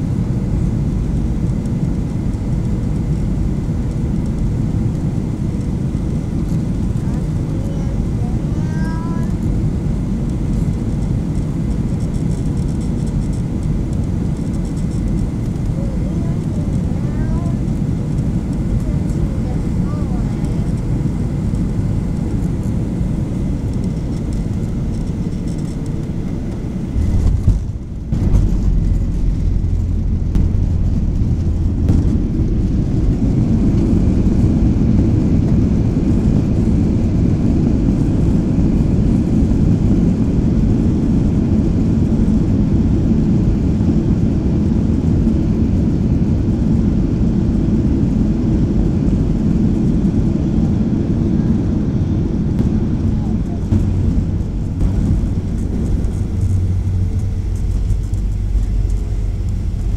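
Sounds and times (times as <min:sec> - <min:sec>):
jet engine and airflow noise: 0:00.0 - 0:59.9
wheels rumbling on runway: 0:00.0 - 0:59.9.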